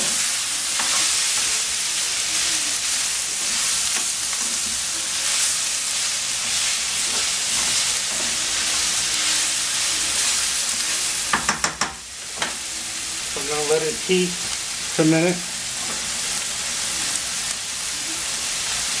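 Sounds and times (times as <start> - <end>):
food sizzling in a skillet: 0.0 - 19.0
spatula stirring in a skillet: 0.0 - 19.0.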